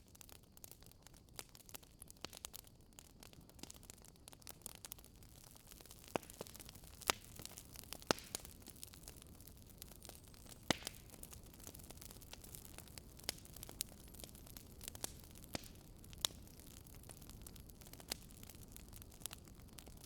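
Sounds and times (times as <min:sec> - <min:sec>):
wood fire crackling: 0:00.0 - 0:20.0
sharp pops of fire: 0:00.2 - 0:20.0.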